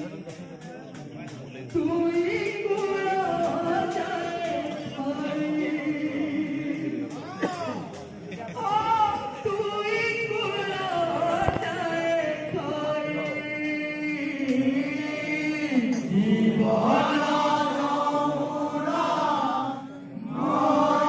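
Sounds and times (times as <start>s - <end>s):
men chanting devotional song: 0.0s - 21.0s.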